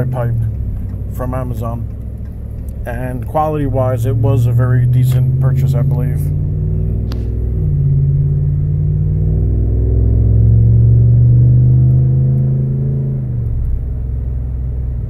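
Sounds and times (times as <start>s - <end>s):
truck exhaust accelerating: 0.0s - 15.0s.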